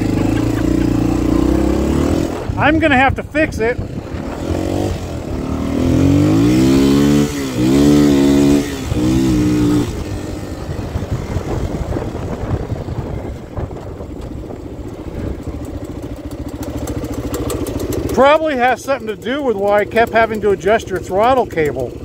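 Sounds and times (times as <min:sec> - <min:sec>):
dirt bike engine accelerating: 0:00.0 - 0:22.0.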